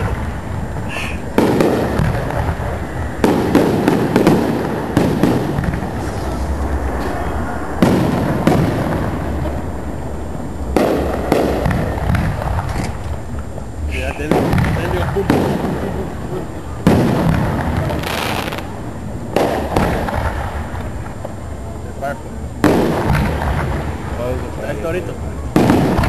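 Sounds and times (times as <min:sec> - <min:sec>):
firework shells bursting: 0:00.0 - 0:07.2, 0:07.8 - 0:21.4, 0:22.6 - 0:26.0.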